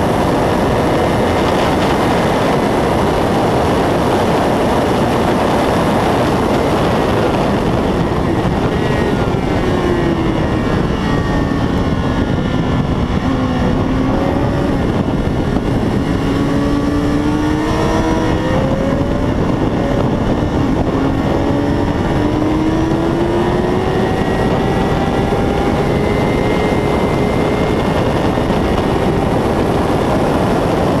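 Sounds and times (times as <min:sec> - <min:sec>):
motorcycle engine: 0:00.0 - 0:31.0
wind rush: 0:00.0 - 0:31.0.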